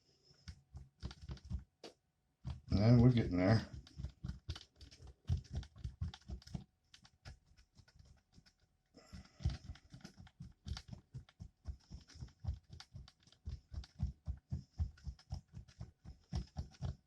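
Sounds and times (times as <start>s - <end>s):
spatula tapping and scraping cup: 2.4s - 17.0s.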